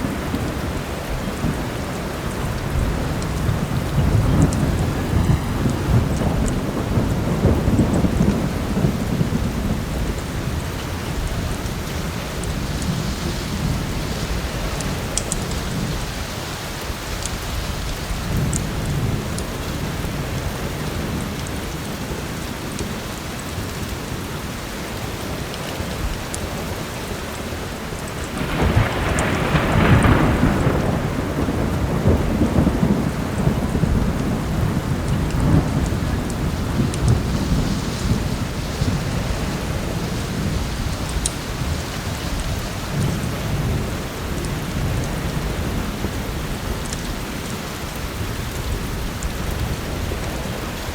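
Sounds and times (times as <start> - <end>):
rolling thunder: 0.0 - 21.7, 27.7 - 50.9
heavy rain: 0.0 - 50.9.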